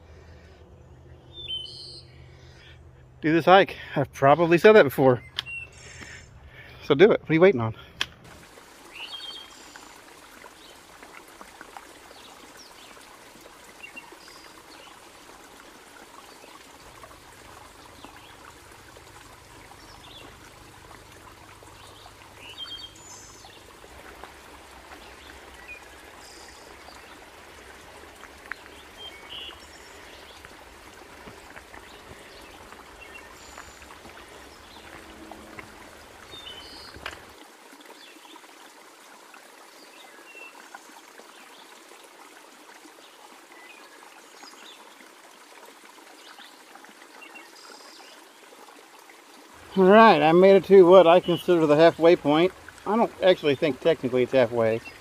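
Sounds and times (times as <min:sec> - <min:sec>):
creek babbling over stones: 0:01.4 - 0:55.0.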